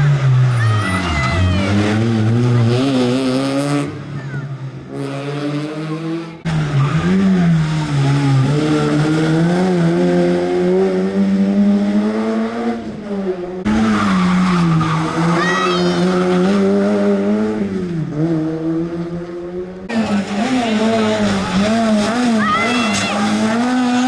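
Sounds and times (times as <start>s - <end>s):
car engine revving through gears: 0.0s - 24.0s.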